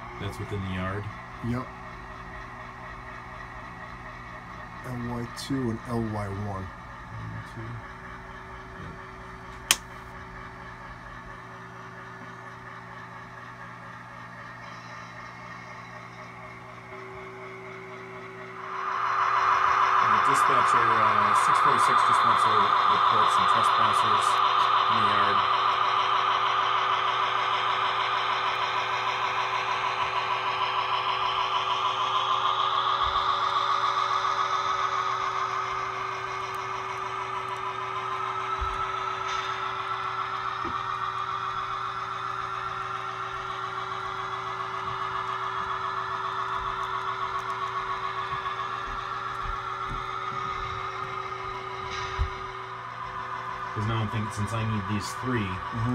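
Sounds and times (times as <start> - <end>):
model locomotive engine sound: 0.0 - 55.9
steady hum with tones: 0.0 - 55.9.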